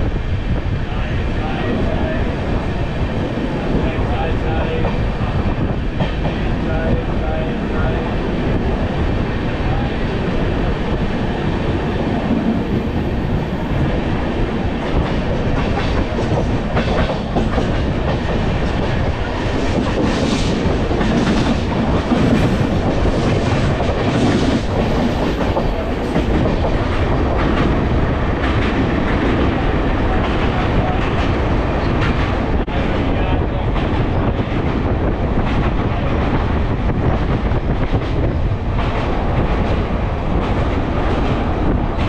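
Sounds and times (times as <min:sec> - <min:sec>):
train rumbling on track: 0:00.0 - 0:42.0.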